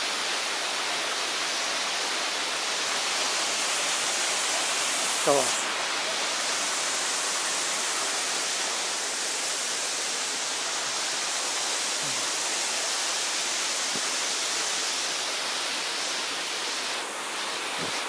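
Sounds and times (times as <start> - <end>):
waterfall rushing hiss: 0.0 - 18.0.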